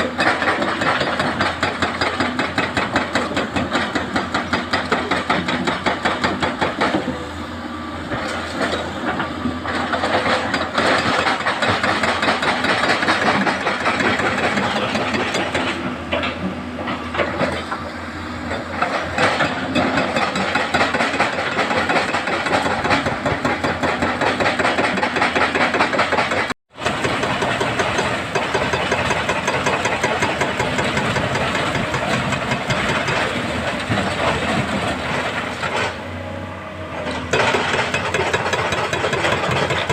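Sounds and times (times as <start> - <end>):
diesel engines rattling: 0.0 - 39.9.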